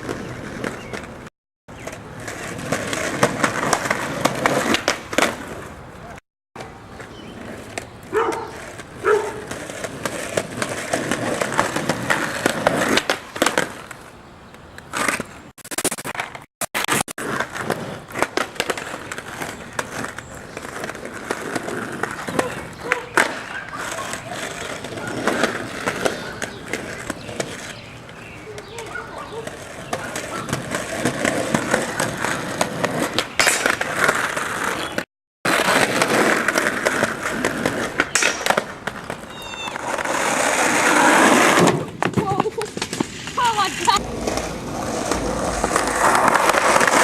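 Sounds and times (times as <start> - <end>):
skateboard clacking on ground: 0.0 - 47.0
skateboard wheels rolling on pavement: 0.0 - 47.0.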